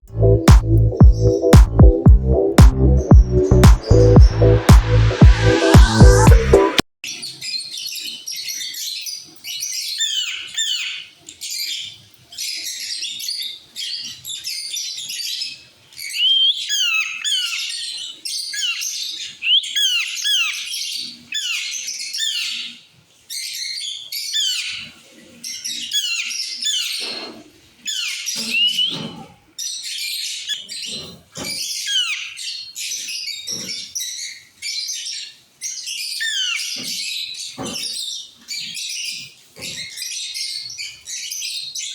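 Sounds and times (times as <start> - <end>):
parrots chattering and squawking: 7.1 - 41.9.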